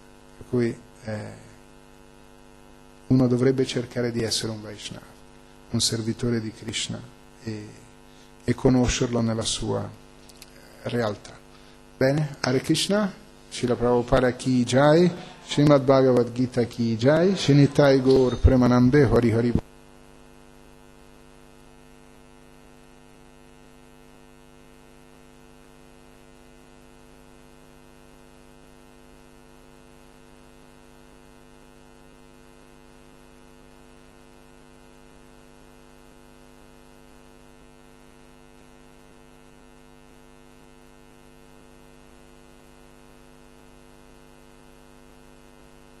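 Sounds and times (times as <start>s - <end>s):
electrical mains hum: 0.0s - 46.0s.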